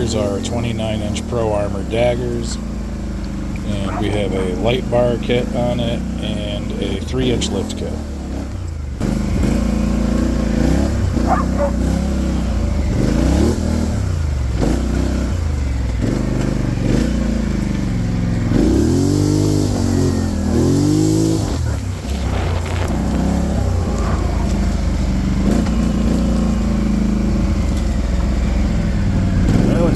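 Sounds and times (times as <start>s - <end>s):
atv engine revving: 0.0s - 29.9s.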